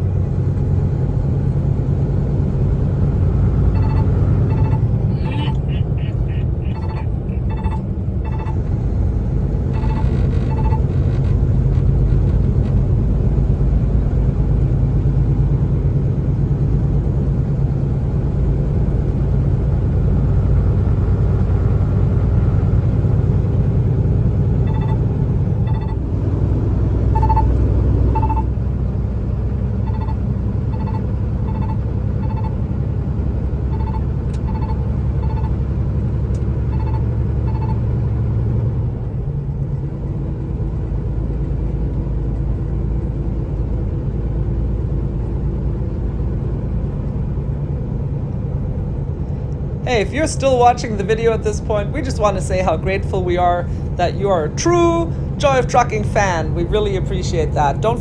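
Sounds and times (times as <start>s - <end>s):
road noise: 0.0s - 58.0s
truck engine rumble: 0.0s - 58.0s.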